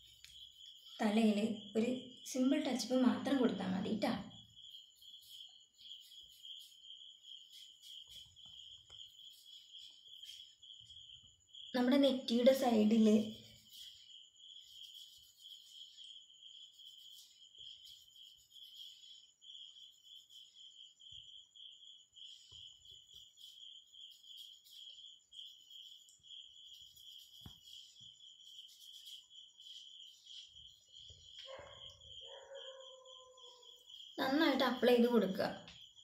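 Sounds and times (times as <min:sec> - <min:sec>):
cricket trilling: 0:00.0 - 0:36.0.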